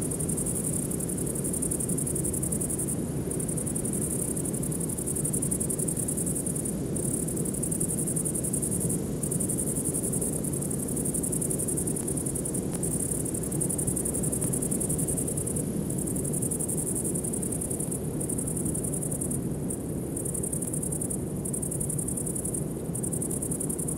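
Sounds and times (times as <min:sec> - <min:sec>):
insects trilling: 0:00.0 - 0:23.9.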